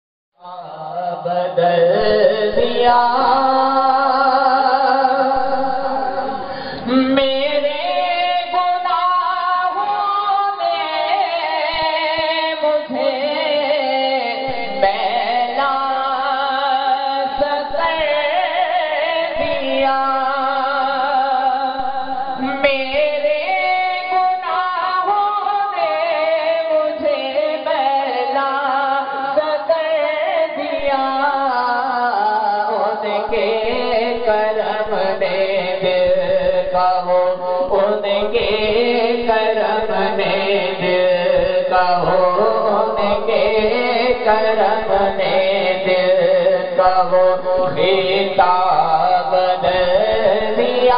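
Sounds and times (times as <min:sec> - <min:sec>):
man singing: 0:00.4 - 0:50.9.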